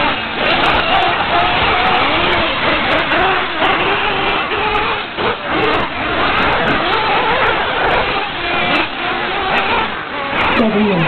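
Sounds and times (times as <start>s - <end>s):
radio-controlled car motors racing: 0.0s - 11.0s.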